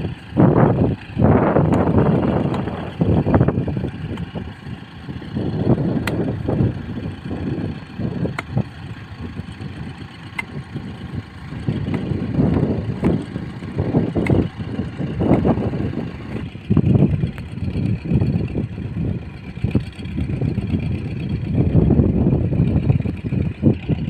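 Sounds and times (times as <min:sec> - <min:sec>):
tractor diesel engine rumbling: 0:00.0 - 0:24.0.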